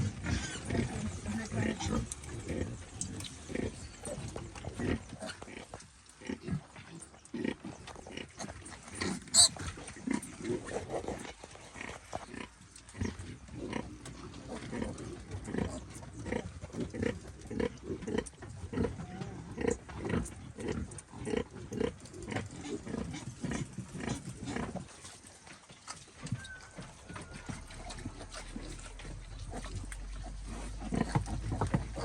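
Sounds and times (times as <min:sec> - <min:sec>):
pigs grunting: 0:00.0 - 0:25.9, 0:26.6 - 0:32.0.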